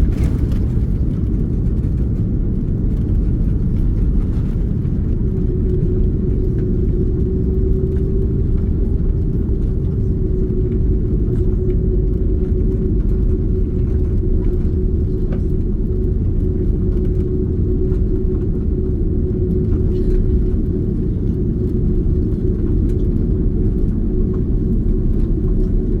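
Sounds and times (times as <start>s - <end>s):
droning hum: 0.0s - 26.0s
jet cabin engine rumble: 0.0s - 26.0s.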